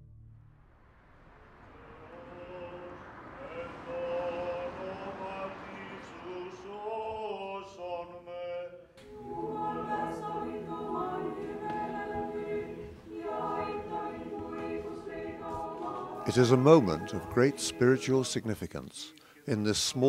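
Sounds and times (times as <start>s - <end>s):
church choir singing a cappella: 1.7s - 18.8s.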